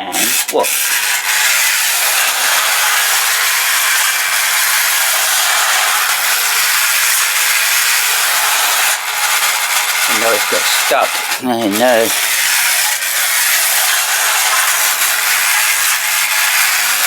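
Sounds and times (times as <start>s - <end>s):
clockwork toy train whirring: 0.0s - 17.0s.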